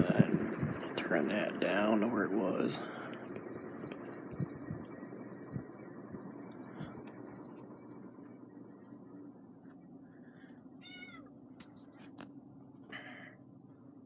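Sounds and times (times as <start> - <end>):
ceiling fan air noise: 0.0 - 14.0
faint bearing ticks: 0.0 - 14.0.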